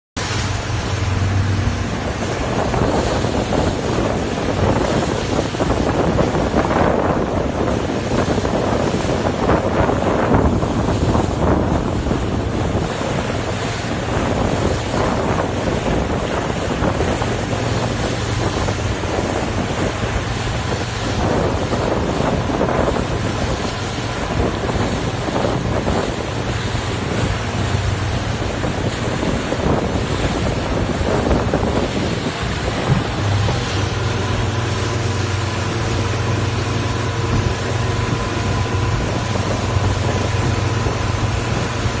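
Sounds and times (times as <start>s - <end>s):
water rushing past boat: 0.2s - 42.0s
wind buffeting microphone: 0.2s - 42.0s.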